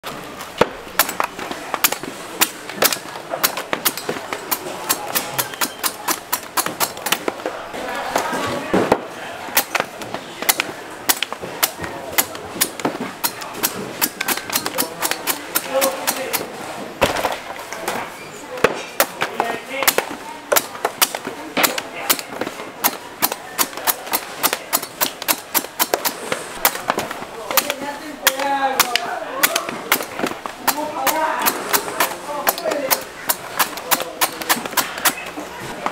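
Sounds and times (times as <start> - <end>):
blade chopping coconuts: 0.4 - 7.6, 8.2 - 18.0, 18.6 - 35.9.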